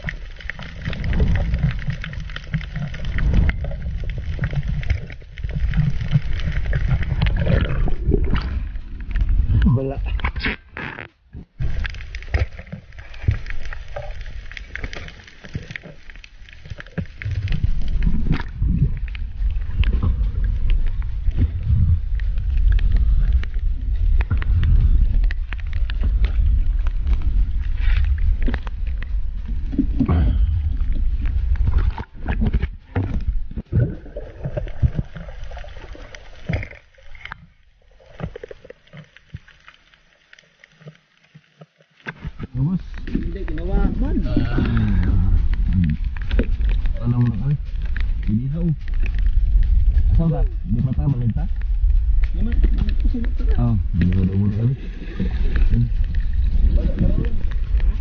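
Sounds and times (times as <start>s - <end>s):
sharp crackling clicks: 0.0s - 58.0s
underwater rumble: 0.0s - 58.0s
water sloshing and gurgling: 0.0s - 58.0s.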